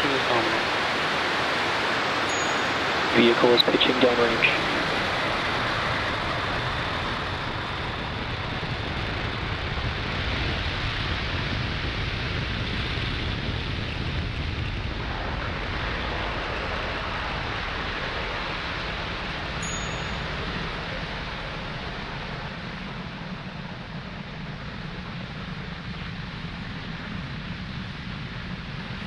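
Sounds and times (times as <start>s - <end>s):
rocket engines rumbling: 0.0s - 29.0s.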